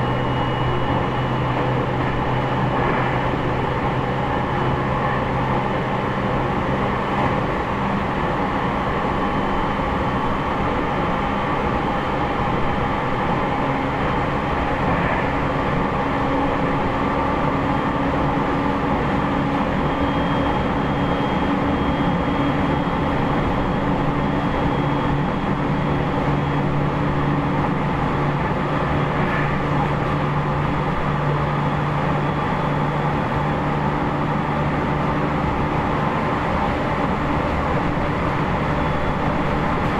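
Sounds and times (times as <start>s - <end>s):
train rolling rumble: 0.0s - 39.9s
motor and inverter hum: 7.1s - 39.9s.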